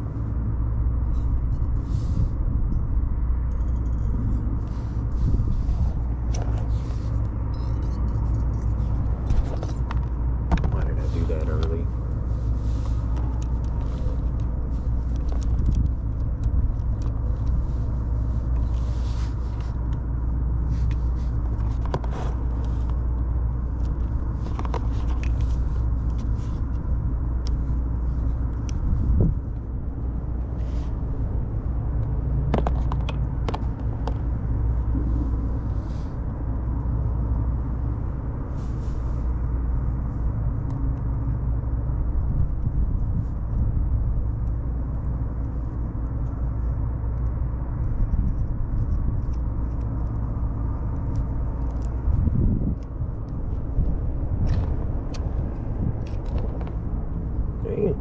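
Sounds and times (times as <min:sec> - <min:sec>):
low mechanical rumble and hum: 0:00.0 - 0:58.0.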